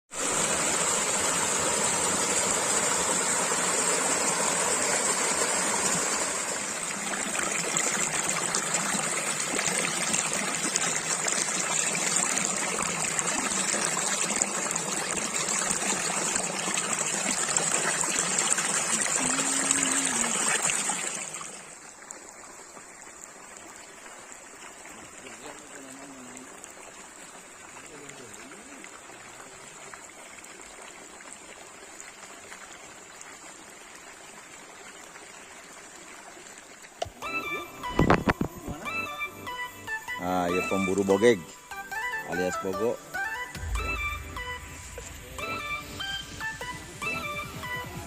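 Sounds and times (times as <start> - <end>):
stream water flowing: 0.1 - 48.0.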